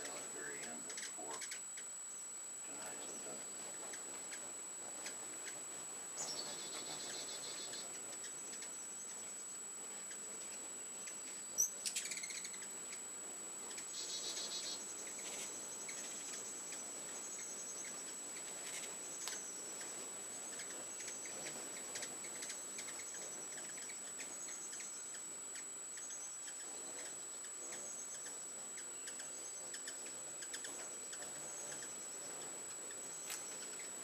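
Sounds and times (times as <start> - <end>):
small ticks: 0.0 - 1.9, 3.7 - 34.0
hummingbirds chipping and twittering: 0.0 - 34.0.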